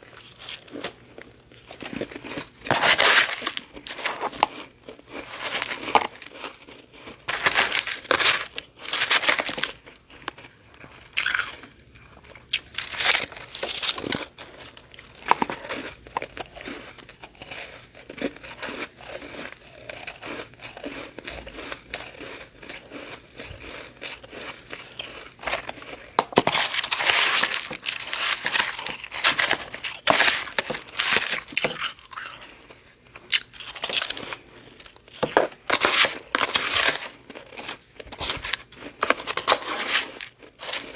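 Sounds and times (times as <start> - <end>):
frost crunching as chewed: 0.0 - 40.9.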